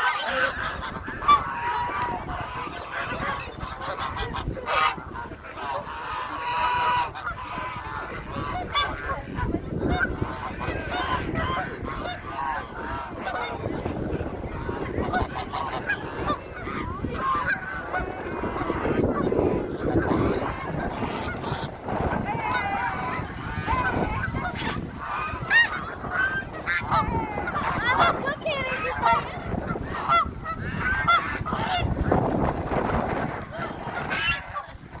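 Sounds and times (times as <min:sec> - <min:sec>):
flock of geese honking: 0:00.0 - 0:35.0.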